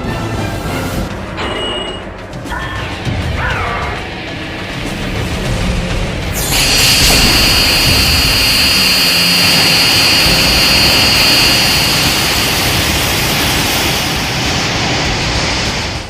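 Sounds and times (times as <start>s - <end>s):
high-pitched whine: 2.8s - 16.0s
loud rushing sound: 3.0s - 16.0s.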